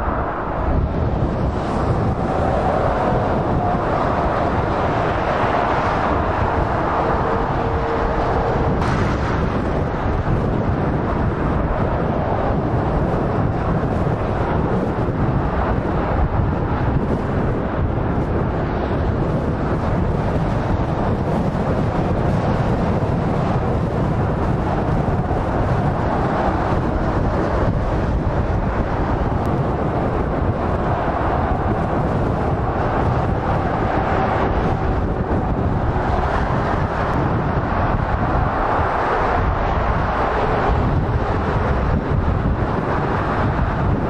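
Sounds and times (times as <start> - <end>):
motorway traffic passing: 0.0 - 44.0
wind buffeting microphone: 0.0 - 44.0.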